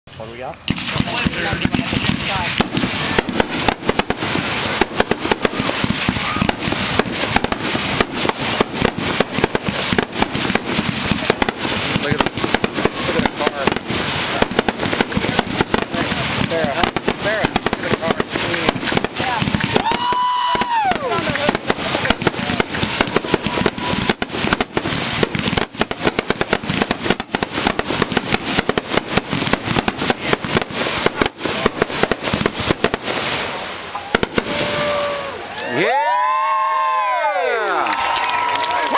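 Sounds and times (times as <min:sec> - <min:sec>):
fireworks shots and pops: 0:00.1 - 0:35.4
fireworks hiss: 0:00.1 - 0:35.6.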